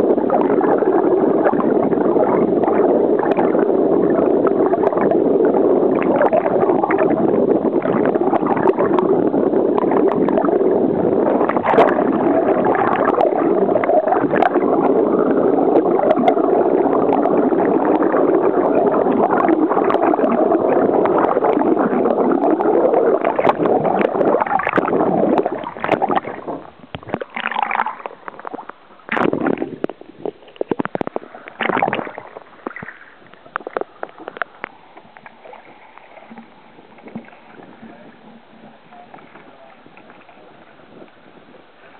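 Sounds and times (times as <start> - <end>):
underwater water rushing and gurgling: 0.0 - 41.9
water splashing against hull: 0.0 - 41.9.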